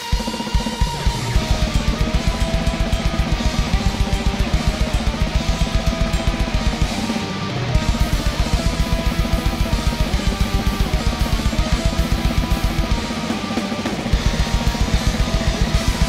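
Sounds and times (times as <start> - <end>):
cymbals: 0.0 - 16.0
distorted electric guitars: 0.0 - 16.0
double-kick drum beat: 0.0 - 16.0.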